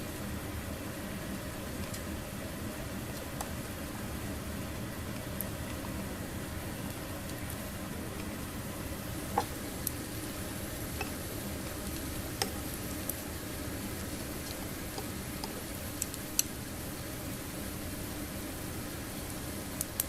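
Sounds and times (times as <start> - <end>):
grill fire hissing and crackling: 0.0 - 20.0.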